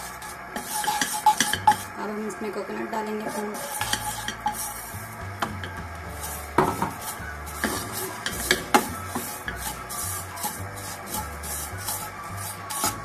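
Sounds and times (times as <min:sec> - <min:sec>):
wooden spatula scraping a frying pan: 0:00.0 - 0:13.0.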